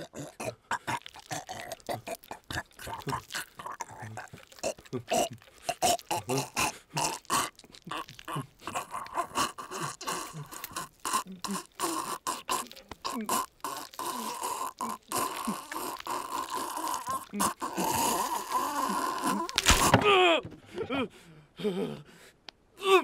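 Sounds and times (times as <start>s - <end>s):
guttural grunting and growling: 0.0s - 20.4s.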